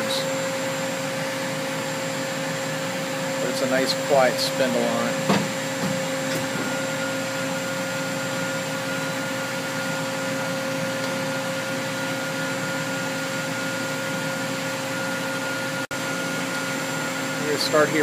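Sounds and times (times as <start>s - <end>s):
lathe machine hum: 0.0s - 18.0s.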